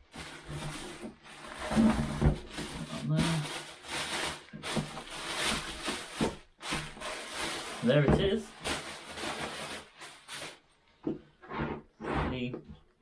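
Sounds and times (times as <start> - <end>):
packaging rustling and crinkling: 0.1 - 10.6.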